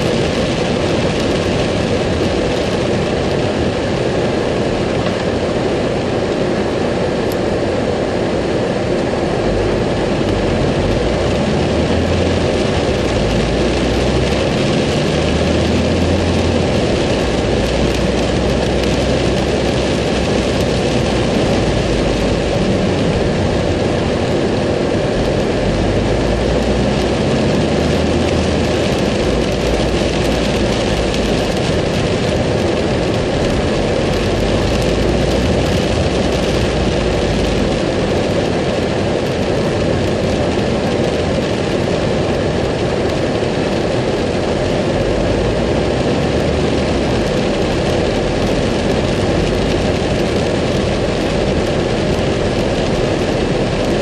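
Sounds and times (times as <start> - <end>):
car engine: 0.0 - 54.0
rain on car roof: 0.0 - 54.0
tyres on wet road: 0.0 - 54.0.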